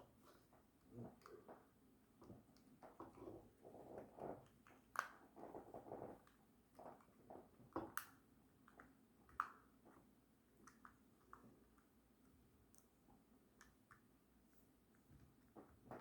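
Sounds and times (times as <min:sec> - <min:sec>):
faint clicks and taps of handling: 0:00.2 - 0:16.0.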